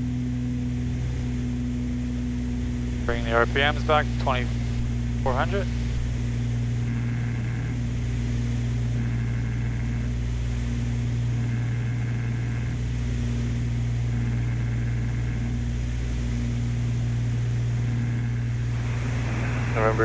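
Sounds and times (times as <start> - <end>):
propeller engines droning in cabin: 0.0 - 20.0.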